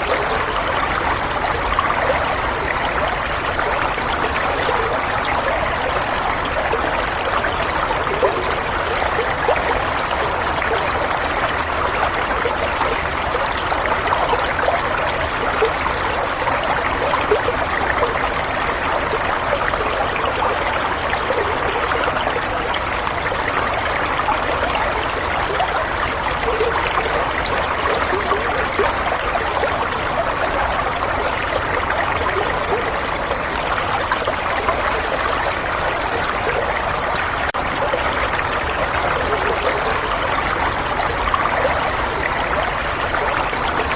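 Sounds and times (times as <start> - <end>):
stream trickling and babbling: 0.0 - 43.9.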